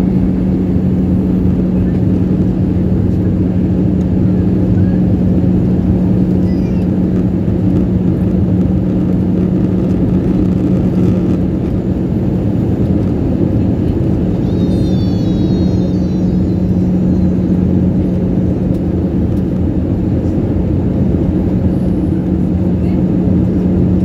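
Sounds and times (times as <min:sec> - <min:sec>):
jet engines and rushing air: 0:00.0 - 0:24.0
low hum: 0:00.0 - 0:24.0.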